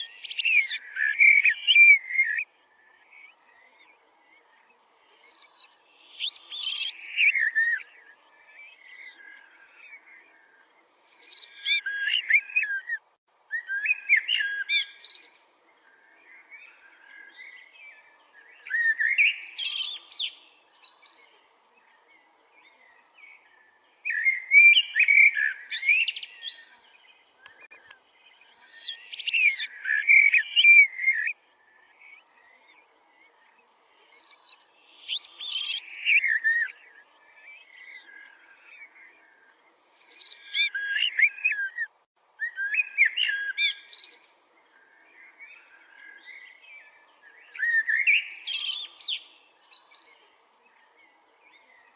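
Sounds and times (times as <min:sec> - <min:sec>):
bird singing loud phrases: 0:00.0 - 0:51.9
fainter bird calls: 0:00.0 - 0:51.9.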